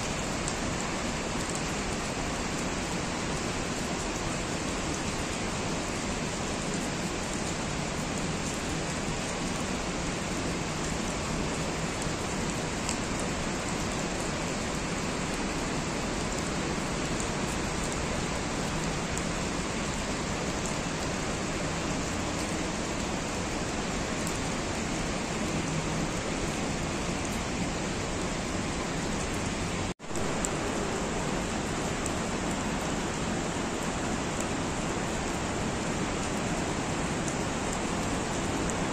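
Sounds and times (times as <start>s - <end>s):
raindrop ticks: 0.0s - 23.1s, 29.0s - 38.9s
steady rain: 0.0s - 38.9s.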